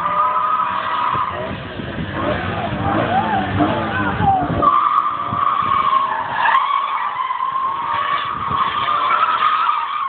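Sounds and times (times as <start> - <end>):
tyres squealing: 0.0 - 1.6, 2.8 - 10.0.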